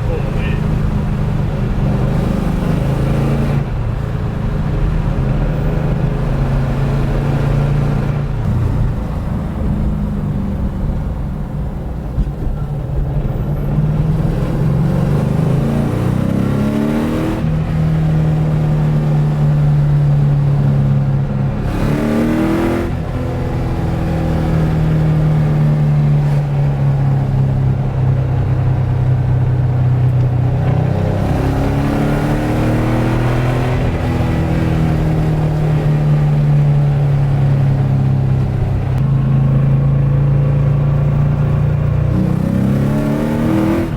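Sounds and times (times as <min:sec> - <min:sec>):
car engine shifting gears: 0:00.0 - 0:43.9.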